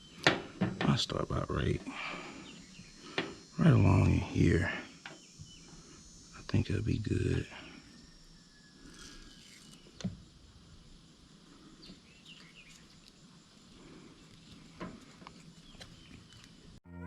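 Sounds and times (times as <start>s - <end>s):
faint bird chirps: 1.2s - 10.9s, 11.6s - 16.8s.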